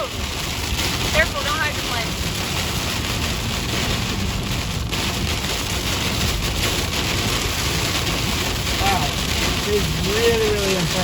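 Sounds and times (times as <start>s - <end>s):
heavy rain on a car: 0.0s - 11.0s
tyres spraying through water: 0.0s - 11.0s.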